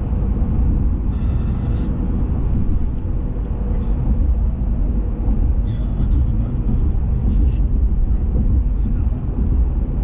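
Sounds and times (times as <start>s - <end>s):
engine and road rumble: 0.0s - 10.0s
faint steady hum: 0.0s - 10.0s.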